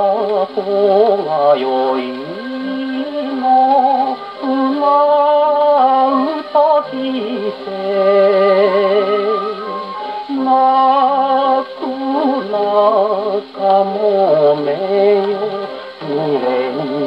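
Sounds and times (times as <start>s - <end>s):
man singing with vibrato: 0.0s - 17.0s
old gramophone record playing: 0.0s - 17.0s.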